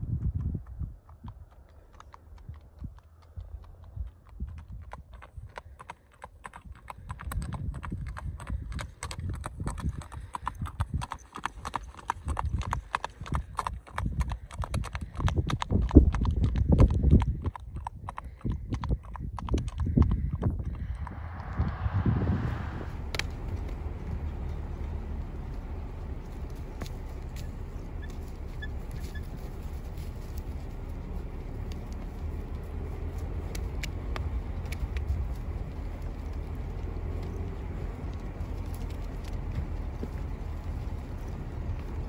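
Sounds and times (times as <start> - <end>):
horse hooves clip-clopping on asphalt: 0.0 - 21.2, 22.9 - 42.0.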